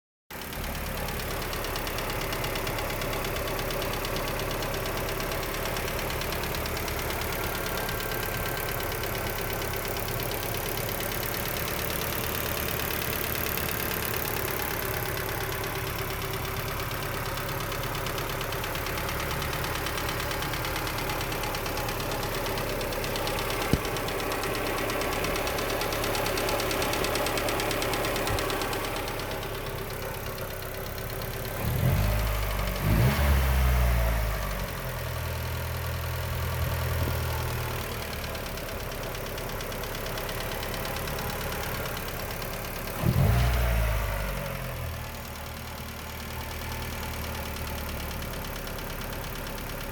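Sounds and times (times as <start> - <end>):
car engine running: 0.3 - 49.9.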